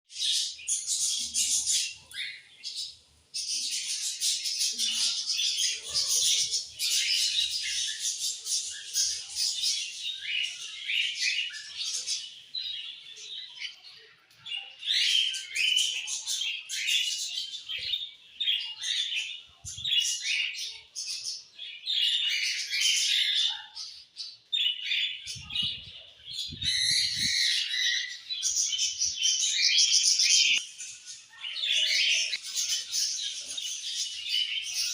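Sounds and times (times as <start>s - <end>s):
budgerigars chirping and warbling: 0.1s - 34.9s.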